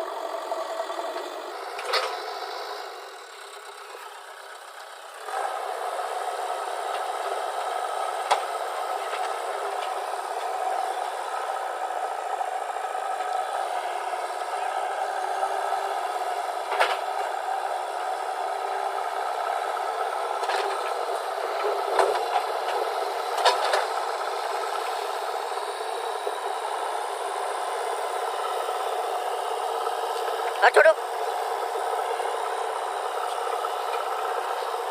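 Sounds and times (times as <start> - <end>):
heavy machinery running: 0.0 - 34.9.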